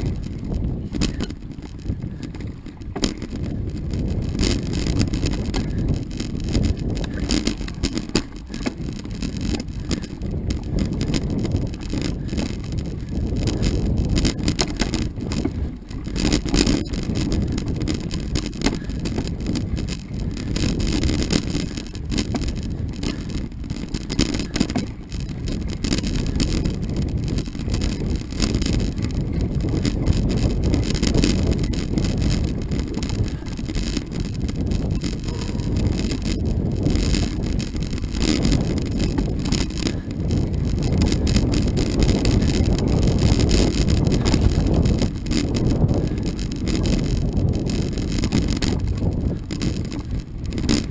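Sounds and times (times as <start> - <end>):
bike rattling over bumps: 0.0 - 50.9
bike tyres rolling over dirt: 0.0 - 50.9
wind buffeting microphone: 0.0 - 50.9.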